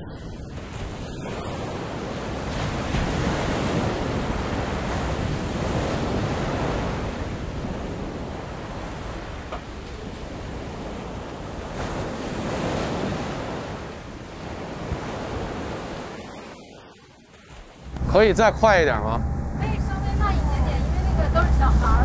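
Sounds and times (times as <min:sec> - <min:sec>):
wind buffeting microphone: 0:00.0 - 0:16.8, 0:17.4 - 0:22.0
rushing water and breaking waves: 0:00.0 - 0:22.0.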